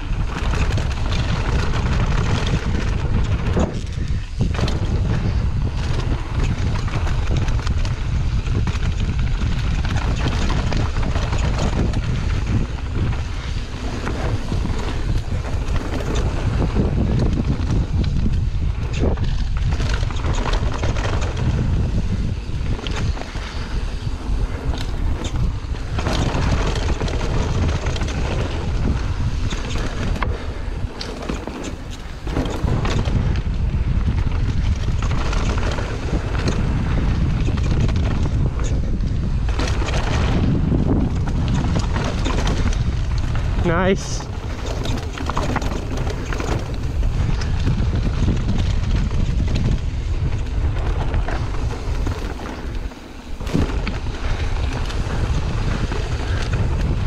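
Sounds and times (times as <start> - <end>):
bike clicks and knocks: 0.0 - 57.0
tyre noise on dirt: 0.0 - 57.0
wind buffeting microphone: 0.0 - 57.0.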